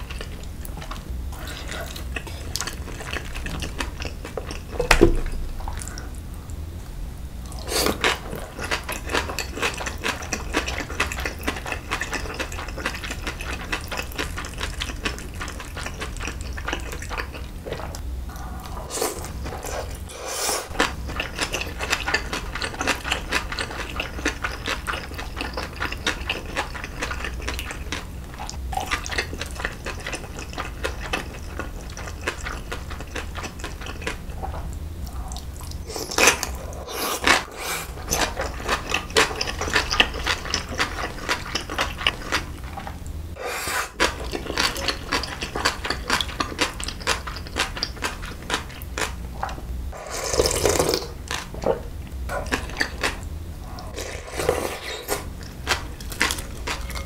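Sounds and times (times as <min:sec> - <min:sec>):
wet chewing: 0:00.0 - 0:06.6, 0:07.4 - 0:43.0, 0:43.9 - 0:49.6, 0:52.3 - 0:57.0.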